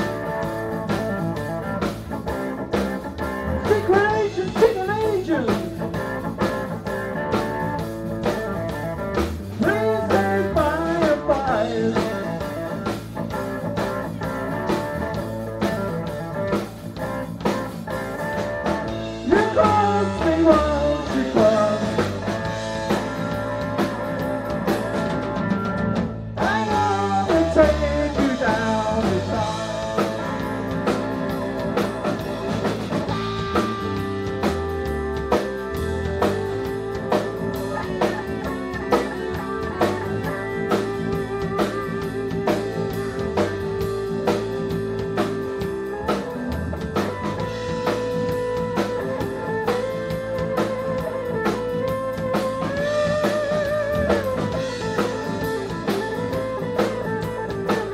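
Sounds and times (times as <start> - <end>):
bending electric guitar lead: 0.0 - 57.9
blues-rock band playing: 0.0 - 57.9.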